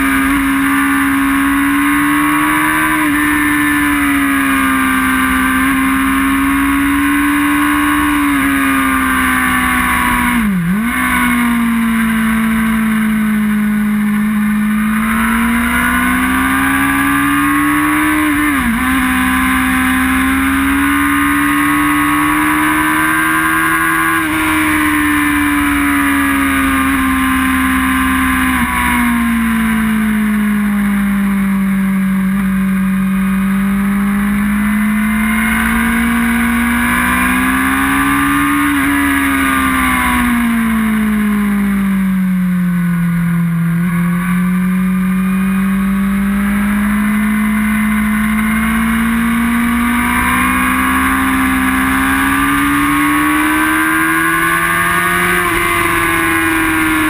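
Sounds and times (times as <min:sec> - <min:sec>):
motorcycle engine revving high: 0:00.0 - 0:57.0.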